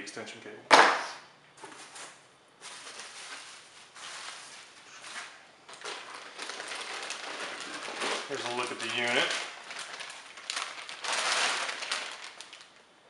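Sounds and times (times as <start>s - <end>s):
foam and plastic wrap rustling: 1.6s - 13.0s.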